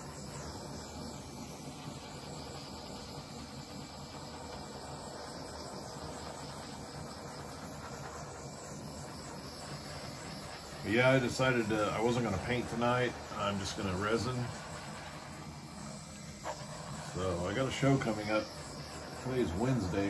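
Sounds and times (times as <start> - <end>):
butane torch hissing: 0.0 - 20.0.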